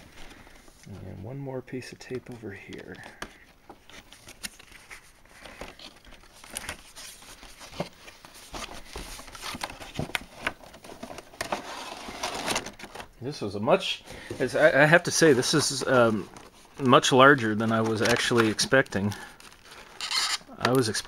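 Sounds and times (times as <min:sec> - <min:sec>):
cardboard and plastic crinkling: 0:02.1 - 0:13.2, 0:13.8 - 0:21.0.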